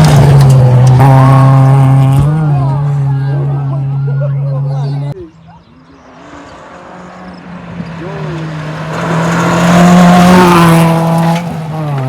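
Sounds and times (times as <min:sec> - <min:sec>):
rally car engine flat out: 0:00.0 - 0:05.2, 0:06.0 - 0:12.0.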